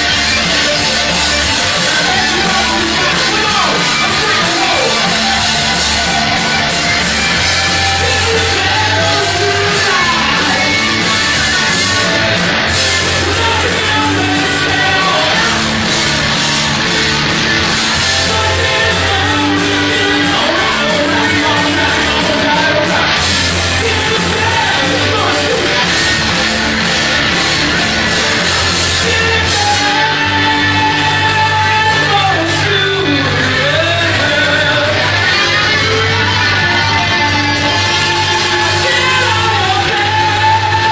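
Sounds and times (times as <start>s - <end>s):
live rock band playing: 0.0s - 40.9s
singer belting and shouting: 0.0s - 40.9s.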